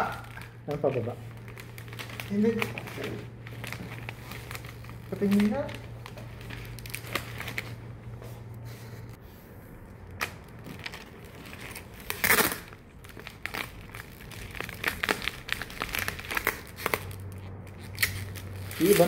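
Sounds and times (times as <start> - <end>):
wrapping material crinkling: 0.0 - 8.2, 9.9 - 19.0
low steady hum: 0.0 - 19.0.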